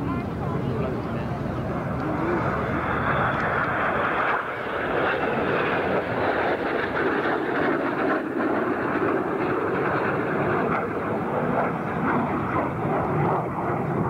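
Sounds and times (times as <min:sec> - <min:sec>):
jets flying: 0:00.0 - 0:14.0.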